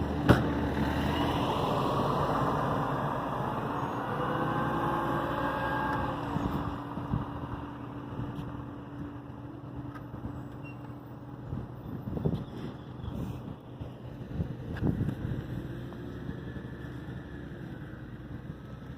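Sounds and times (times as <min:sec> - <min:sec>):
traffic noise: 0:00.0 - 0:18.9
vehicle engine hum and whine: 0:00.0 - 0:18.9.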